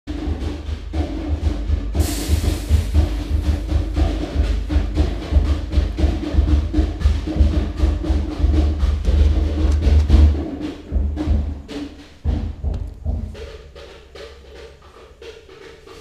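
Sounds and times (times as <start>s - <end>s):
music with heavy bass and drums: 0.1s - 16.0s.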